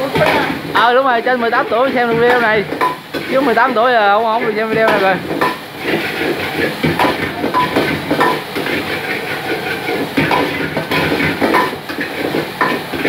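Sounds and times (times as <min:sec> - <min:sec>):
food sizzling: 0:00.0 - 0:13.0
metal ladle scraping a wok: 0:00.0 - 0:13.0.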